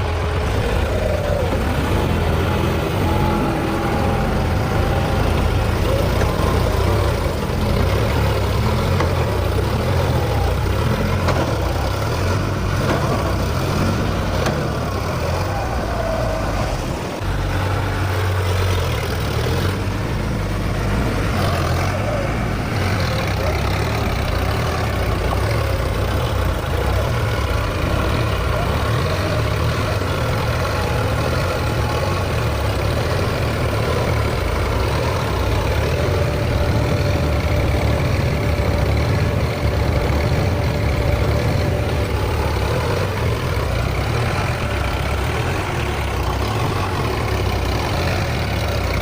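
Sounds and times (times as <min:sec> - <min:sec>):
diesel tractor engines running: 0:00.0 - 0:49.0.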